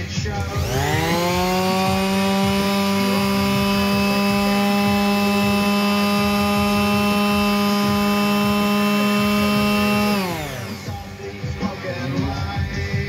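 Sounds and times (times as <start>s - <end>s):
palm sander buzzing: 0.4s - 11.4s.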